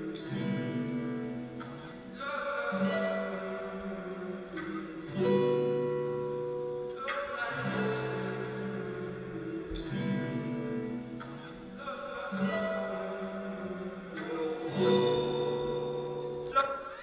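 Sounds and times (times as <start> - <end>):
plucked string instrumental music: 0.0 - 17.0.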